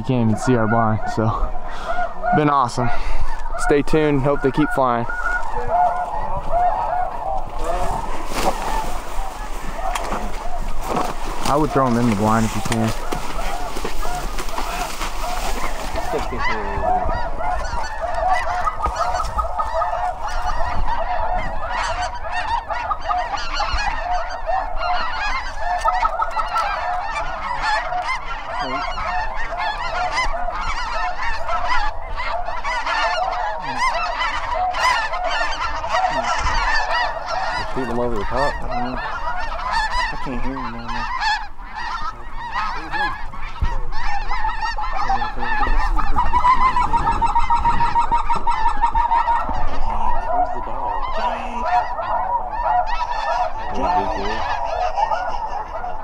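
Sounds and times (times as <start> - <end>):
geese honking: 0.0 - 56.0.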